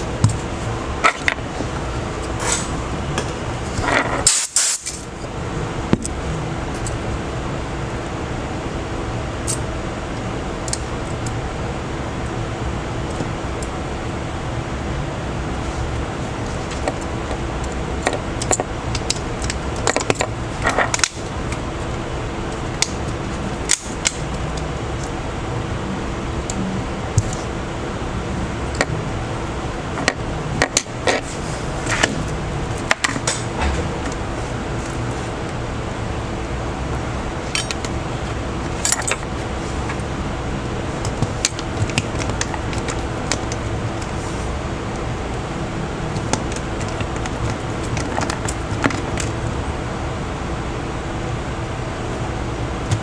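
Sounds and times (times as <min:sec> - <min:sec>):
background hiss and hum: 0:00.0 - 0:53.0.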